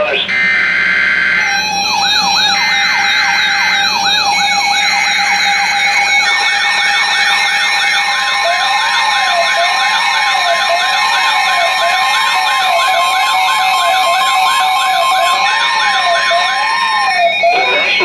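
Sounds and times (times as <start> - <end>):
fast whooping electronic siren: 0.0 - 18.0
slow wailing siren: 0.0 - 18.0
steady siren tones: 0.0 - 18.0
high quick warbling siren: 0.2 - 18.0.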